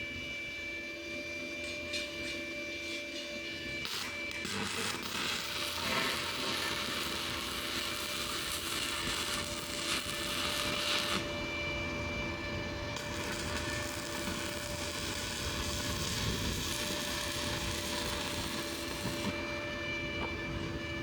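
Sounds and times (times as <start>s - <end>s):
power tool running: 0.7s - 21.0s.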